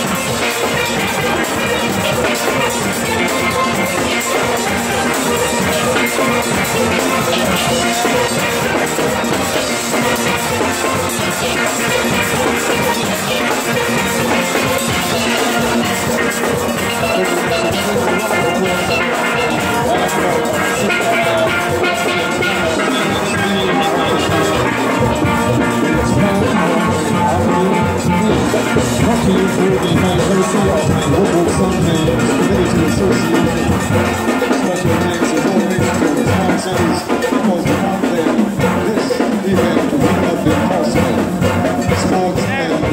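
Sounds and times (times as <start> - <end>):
drums: 0.0 - 42.9
steelpans playing fast melody: 0.0 - 42.9.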